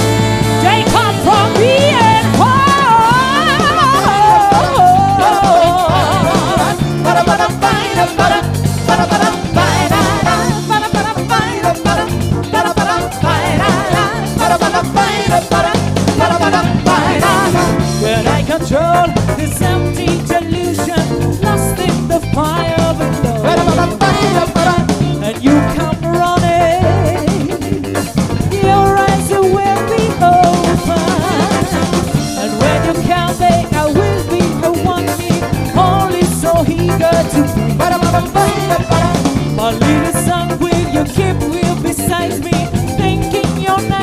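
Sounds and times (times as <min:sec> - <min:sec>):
drum kit beat: 0:00.0 - 0:44.0
soul band playing: 0:00.0 - 0:44.0
wavering lead melody: 0:00.0 - 0:44.0.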